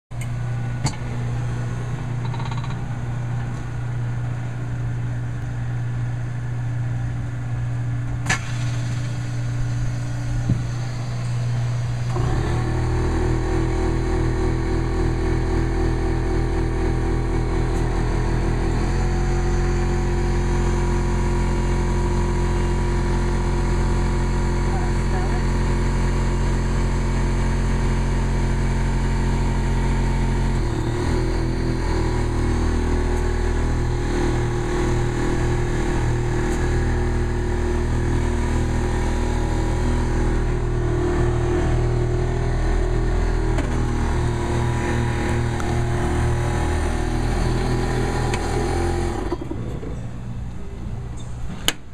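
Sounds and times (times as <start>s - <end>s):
vending machine humming: 0.1s - 26.4s, 29.0s - 51.9s.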